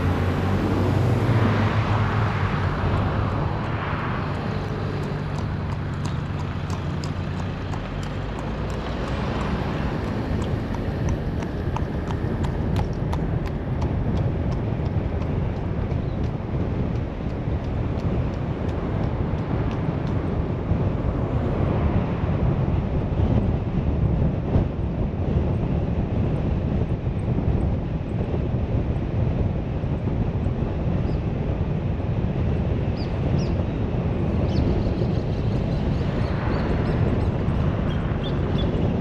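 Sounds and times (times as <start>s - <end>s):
car road rumble: 0.0s - 39.0s.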